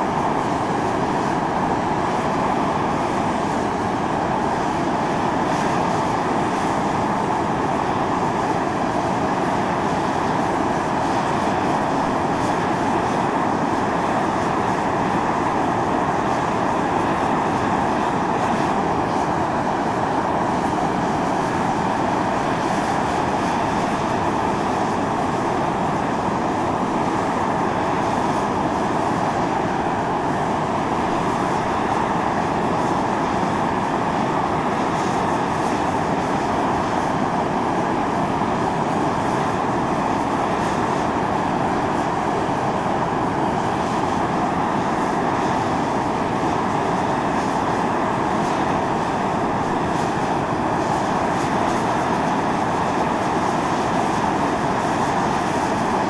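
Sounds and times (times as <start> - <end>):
steam vent hissing and roaring: 0.0 - 56.0.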